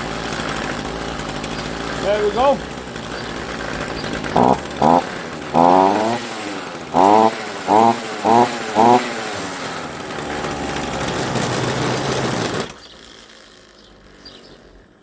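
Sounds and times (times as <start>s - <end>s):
string trimmer engine revving: 0.0s - 15.0s.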